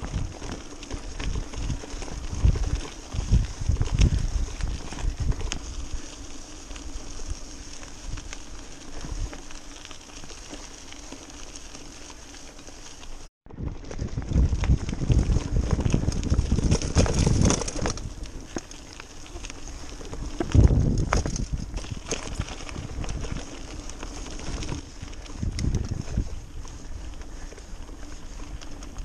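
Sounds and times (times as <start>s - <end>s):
wind buffeting microphone: 0.0s - 9.4s, 13.4s - 18.6s, 19.3s - 29.0s
bike rattling: 0.0s - 29.0s
bike tyres crunching on gravel: 0.0s - 29.0s.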